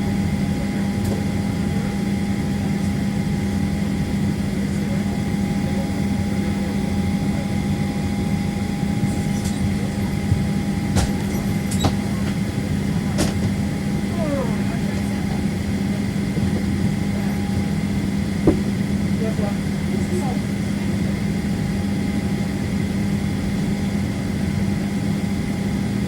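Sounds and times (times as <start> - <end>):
aircraft cabin drone: 0.0 - 26.0.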